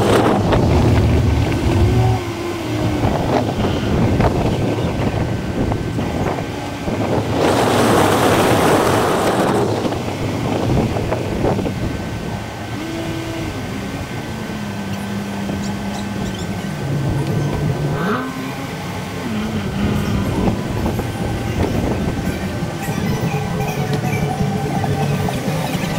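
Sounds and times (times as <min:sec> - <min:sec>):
car road and engine noise: 0:00.0 - 0:25.9
wind buffeting microphone: 0:00.0 - 0:25.9.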